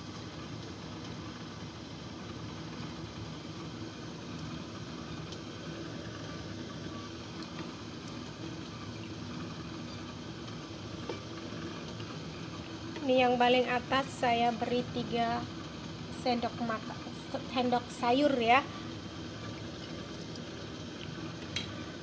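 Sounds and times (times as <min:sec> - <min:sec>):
pot boiling hard: 0:00.0 - 0:22.0.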